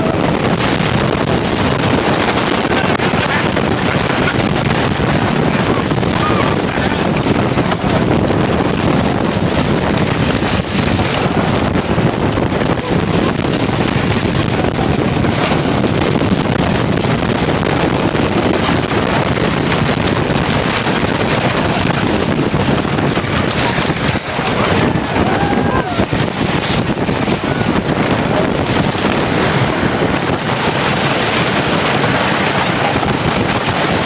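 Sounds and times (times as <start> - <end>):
roller coaster rumbling and clattering: 0.0 - 34.0
wind buffeting microphone: 0.0 - 34.0.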